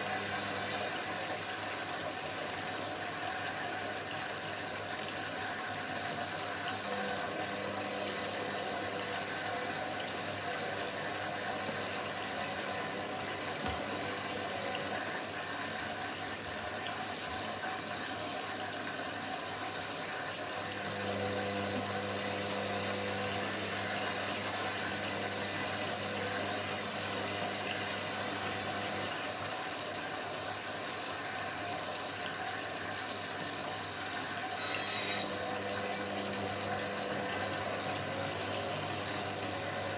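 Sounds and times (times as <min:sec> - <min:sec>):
water rushing in washing machine: 0:00.0 - 0:39.9.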